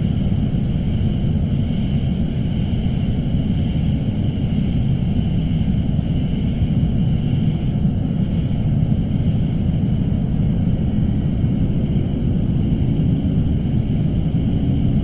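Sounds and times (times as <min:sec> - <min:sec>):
faint high hum: 0:00.0 - 0:15.0
low rumbling drone: 0:00.0 - 0:15.0.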